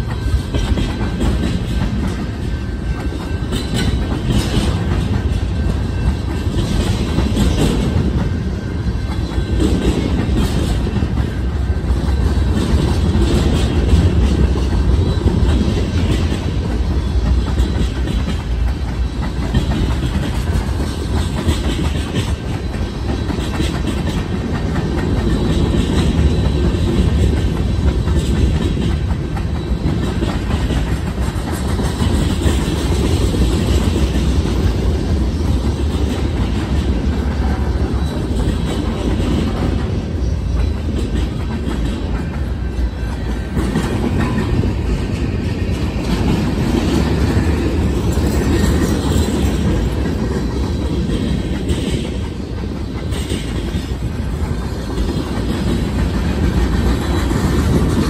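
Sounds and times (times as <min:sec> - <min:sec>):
freight train wheels rumbling: 0:00.0 - 0:58.0
wheels clickety-clack on track: 0:00.0 - 0:58.0.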